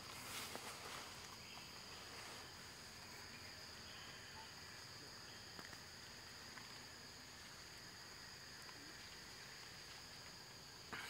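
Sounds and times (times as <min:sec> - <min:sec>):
high-pitched drone of insects: 0:00.0 - 0:11.0.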